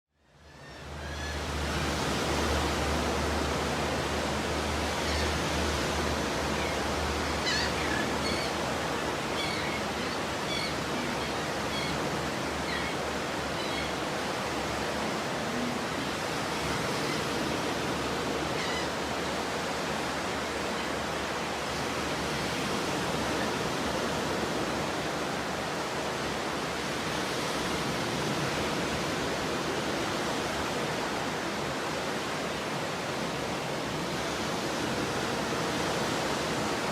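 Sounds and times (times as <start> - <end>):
stormy ocean surf: 0.6 - 36.9.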